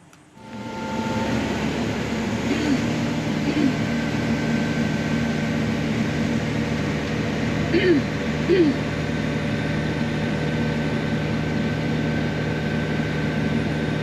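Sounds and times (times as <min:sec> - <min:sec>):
farm machinery engine droning: 0:00.0 - 0:14.0.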